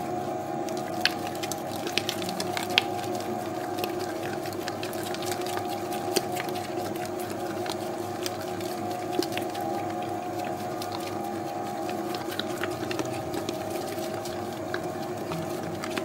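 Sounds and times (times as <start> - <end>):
dough mixer motor humming: 0.0 - 16.0.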